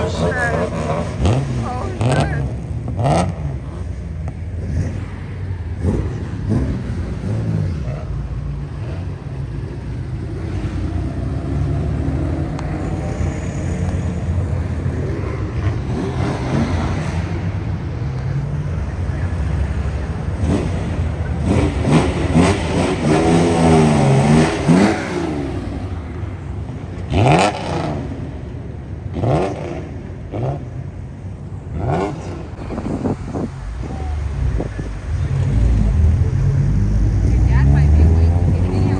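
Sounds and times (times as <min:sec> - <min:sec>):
car engines revving: 0:00.0 - 0:38.9
cars rolling past: 0:00.0 - 0:38.9.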